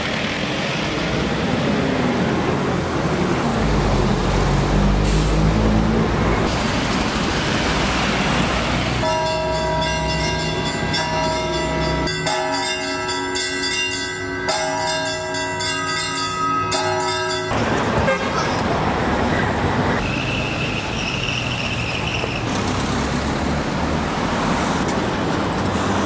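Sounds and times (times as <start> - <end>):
engine and traffic rumble: 0.0 - 26.0.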